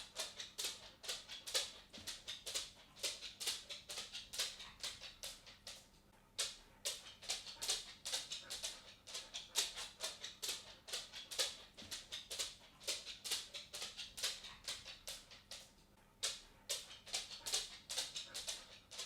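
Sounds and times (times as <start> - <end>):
cat footsteps: 0.0 - 19.0.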